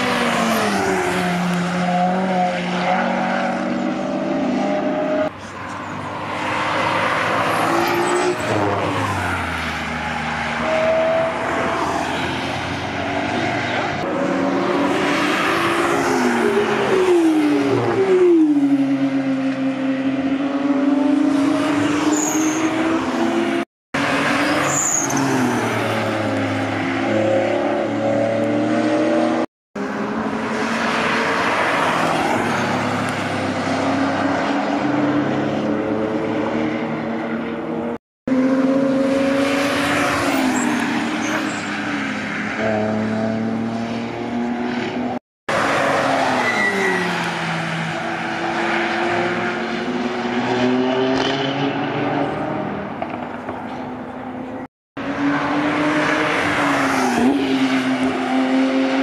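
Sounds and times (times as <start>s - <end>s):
car engines revving past: 0.0s - 59.0s.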